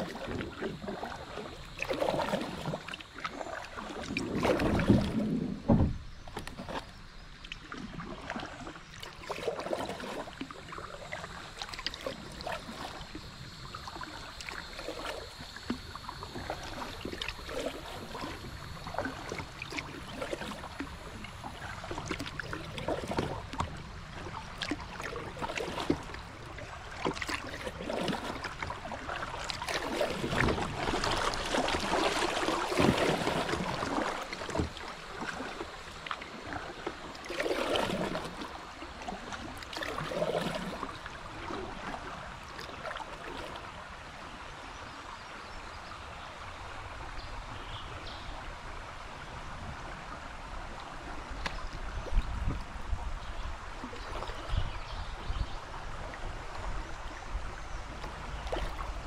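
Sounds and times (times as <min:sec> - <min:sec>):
water splashing around kayak: 0:00.0 - 0:59.0.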